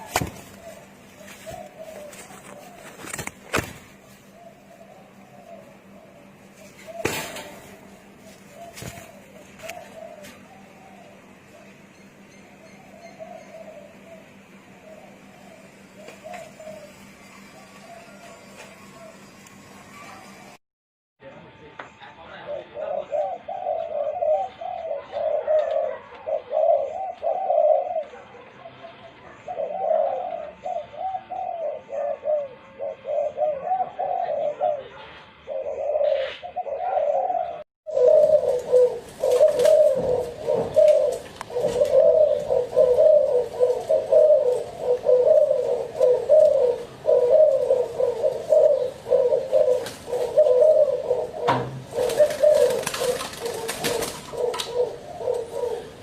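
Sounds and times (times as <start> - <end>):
doves cooing: 0.0 - 20.6, 22.3 - 56.0.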